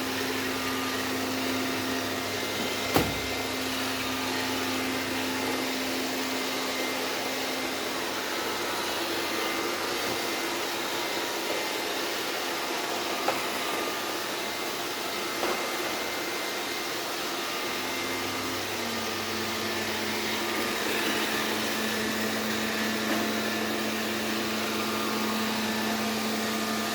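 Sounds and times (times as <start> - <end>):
vacuum cleaner running: 0.0 - 26.9.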